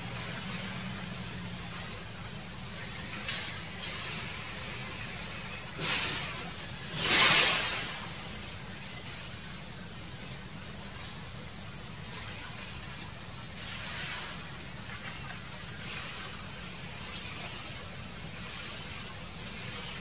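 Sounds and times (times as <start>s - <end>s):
faint hiss: 0.0s - 20.0s
insects droning: 0.0s - 20.0s
low outdoor rumble: 0.0s - 20.0s.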